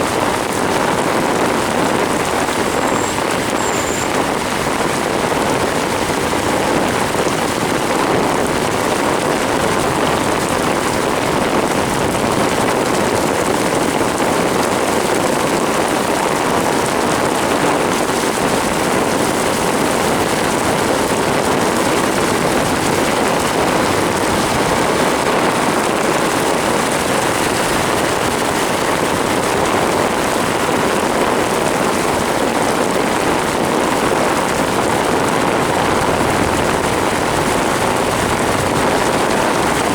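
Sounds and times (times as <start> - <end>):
heavy rain hitting a car: 0.0 - 39.9.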